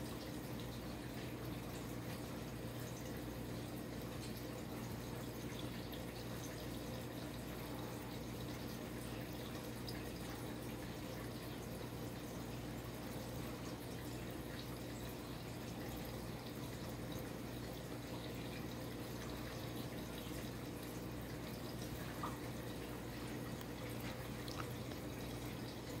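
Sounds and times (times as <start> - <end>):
ceiling fan motor hum: 0.0 - 26.0.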